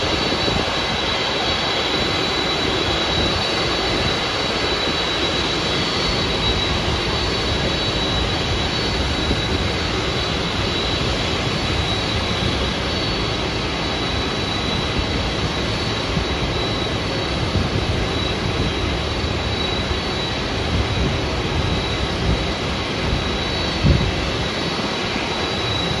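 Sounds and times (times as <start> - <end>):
jet engines idling with whine: 0.0 - 26.0.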